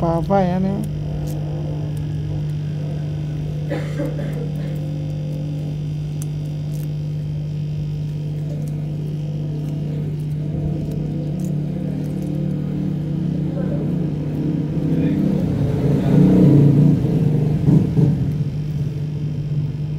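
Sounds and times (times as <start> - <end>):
hot-air blower humming: 0.0 - 19.9.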